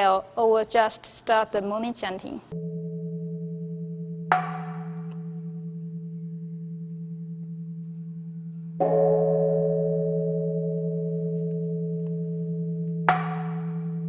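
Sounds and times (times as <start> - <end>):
large temple bell ringing: 2.6 - 14.0.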